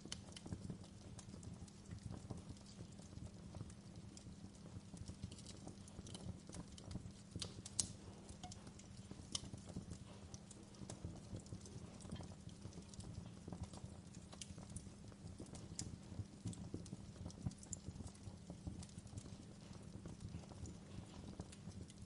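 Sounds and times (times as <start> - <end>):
steady low hum: 0.0 - 22.0
wood fire crackling: 0.0 - 22.0.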